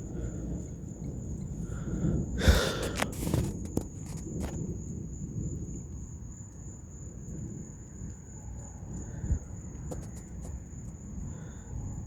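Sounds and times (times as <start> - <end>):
thunder rumble: 0.0 - 10.4.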